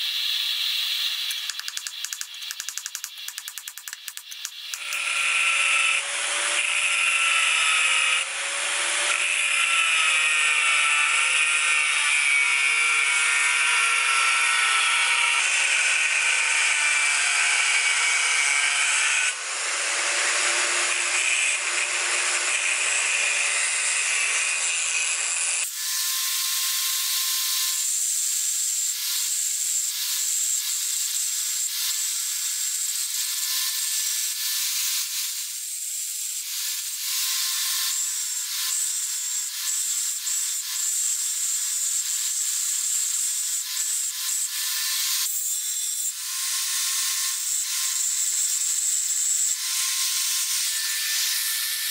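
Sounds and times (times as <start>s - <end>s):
angle grinder grinding metal: 0.0s - 51.9s.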